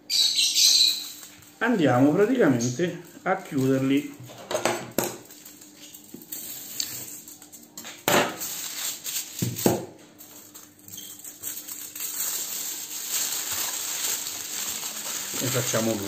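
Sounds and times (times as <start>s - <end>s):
aluminium foil crinkling: 0.4s - 4.3s, 5.1s - 16.0s
aluminium foil tearing: 0.8s - 4.1s, 5.2s - 16.0s.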